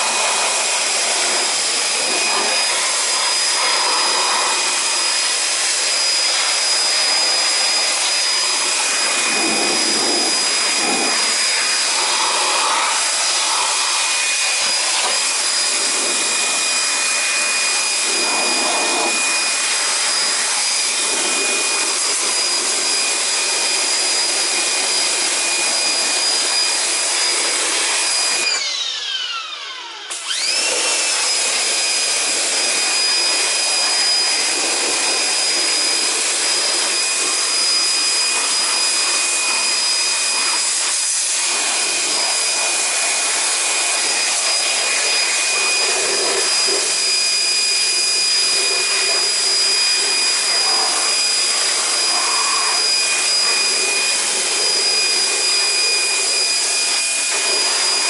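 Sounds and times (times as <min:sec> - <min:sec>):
pressure washer motor whine: 0:00.0 - 0:58.0.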